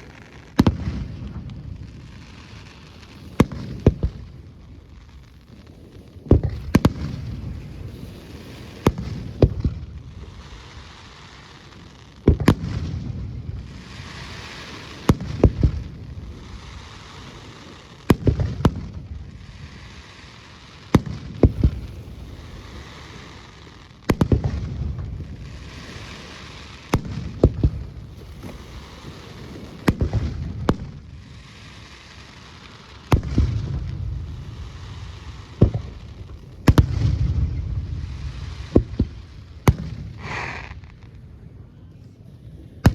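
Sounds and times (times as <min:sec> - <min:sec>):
echoing rumble and crackle: 0:00.0 - 0:20.1, 0:21.0 - 0:31.9, 0:32.7 - 0:42.9.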